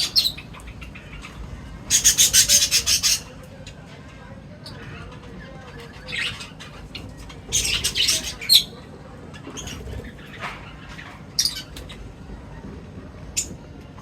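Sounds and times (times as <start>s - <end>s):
birds chirping and squawking: 0.0s - 14.0s.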